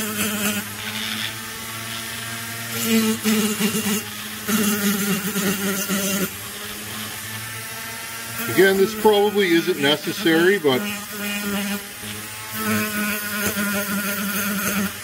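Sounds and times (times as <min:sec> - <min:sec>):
rotary tool whining: 0:00.0 - 0:15.0
sanding drum grinding metal: 0:00.0 - 0:15.0.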